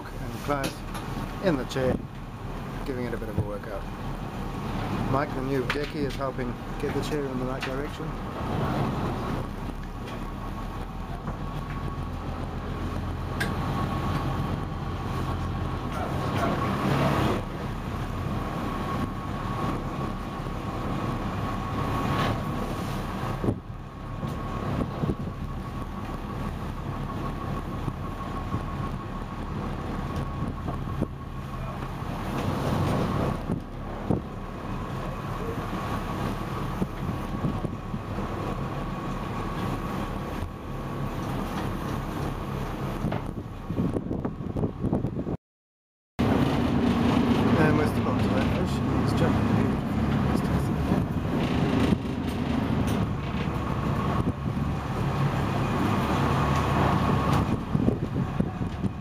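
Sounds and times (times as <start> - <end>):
boat engine running: 0.0 - 45.4, 46.2 - 59.0
wind buffeting microphone: 7.9 - 45.4, 46.2 - 59.0.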